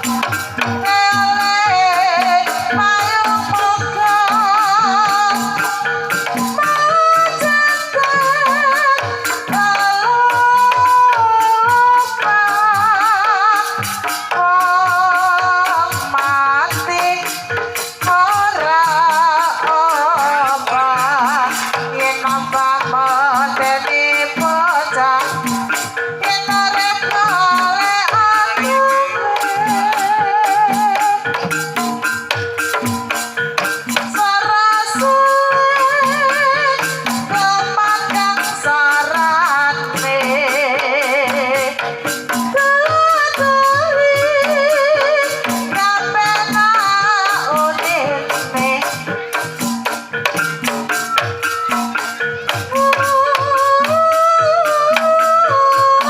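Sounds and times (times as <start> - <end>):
woman singing: 0.0 - 32.4, 33.8 - 56.0
drum and percussion strokes: 0.0 - 56.0.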